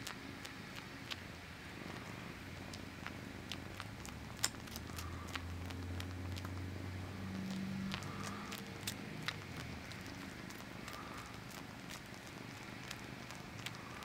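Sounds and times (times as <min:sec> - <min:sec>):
cat purring: 0:00.0 - 0:14.0
wet sucking clicks: 0:00.0 - 0:14.0.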